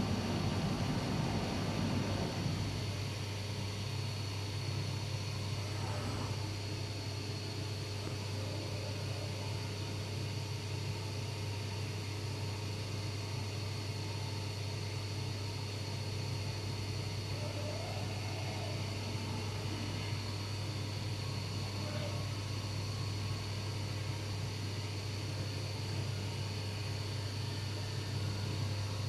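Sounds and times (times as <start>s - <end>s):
cnc machine humming and whining: 0.0s - 29.0s.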